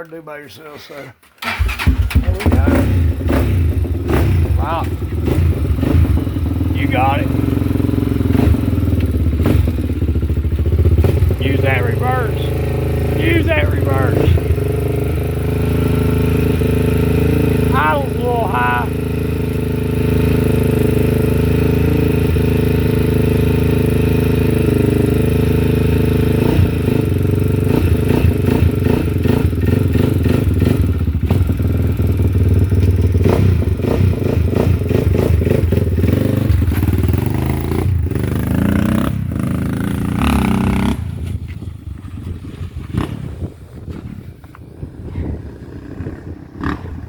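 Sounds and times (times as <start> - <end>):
atv engine idling and revving: 0.0 - 47.0.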